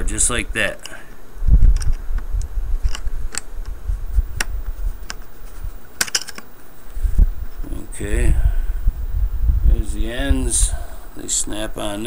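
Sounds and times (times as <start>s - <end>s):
low rumble of handling noise: 0.0s - 12.0s.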